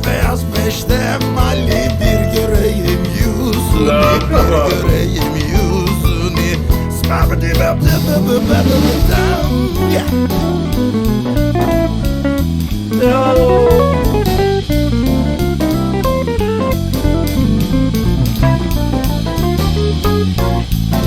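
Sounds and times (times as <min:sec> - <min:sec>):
bass: 0:00.0 - 0:21.0
drum kit beat: 0:00.0 - 0:21.0
plucked guitar: 0:00.0 - 0:21.0.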